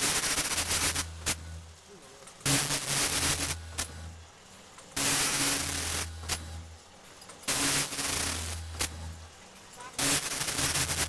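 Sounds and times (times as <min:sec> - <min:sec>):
packaging machine noise burst: 0:00.0 - 0:01.8, 0:02.4 - 0:04.2, 0:04.9 - 0:06.8, 0:07.4 - 0:11.0
low machine hum: 0:00.0 - 0:11.0.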